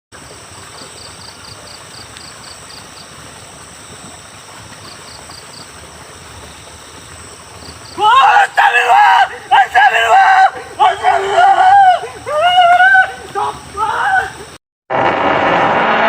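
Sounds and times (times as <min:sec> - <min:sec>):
outdoor background hiss: 0:00.2 - 0:14.6.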